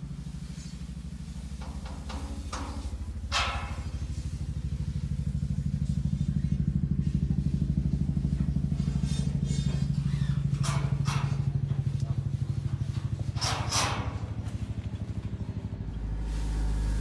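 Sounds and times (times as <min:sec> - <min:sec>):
small truck engine idling: 0:00.0 - 0:17.0.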